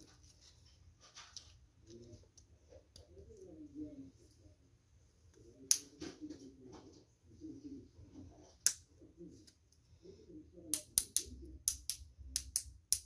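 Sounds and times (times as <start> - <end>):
soft low murmur: 0.0 - 10.7.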